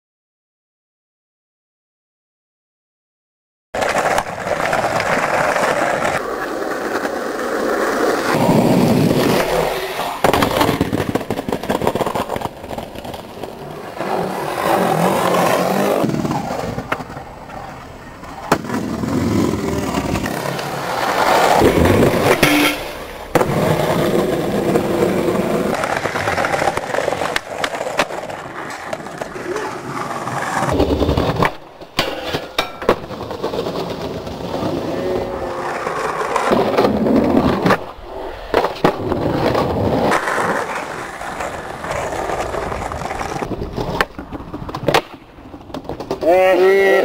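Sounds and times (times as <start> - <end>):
skateboard clacks: 3.8 - 47.0
skateboard wheels rolling on concrete: 3.8 - 47.0.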